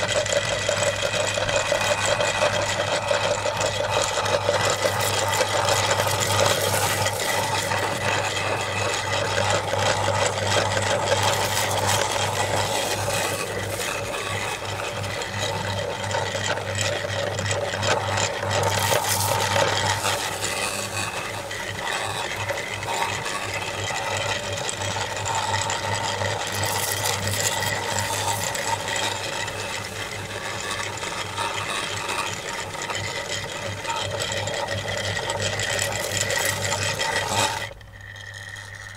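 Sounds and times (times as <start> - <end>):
grinder crunching cookies: 0.0 - 38.9
meat grinder humming: 0.0 - 38.9.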